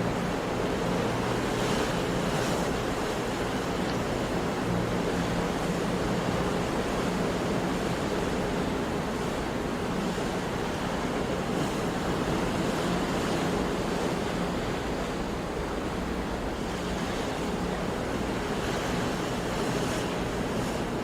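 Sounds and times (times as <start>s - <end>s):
sea waves washing onto shore: 0.0s - 21.0s.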